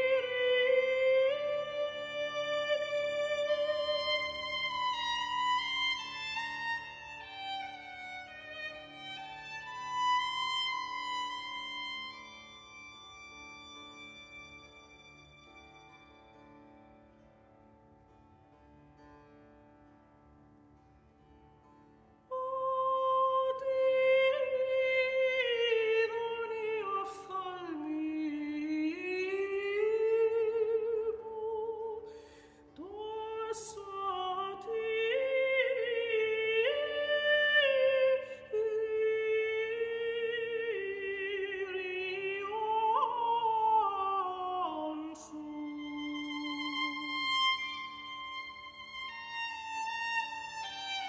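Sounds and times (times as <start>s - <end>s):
soprano singing slow melody: 0.0s - 14.4s, 22.3s - 51.0s.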